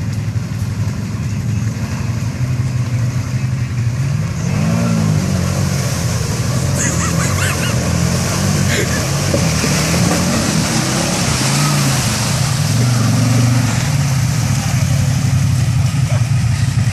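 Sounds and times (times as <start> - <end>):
off-road vehicle engine revving: 0.0 - 16.9
water splashing: 0.0 - 16.9.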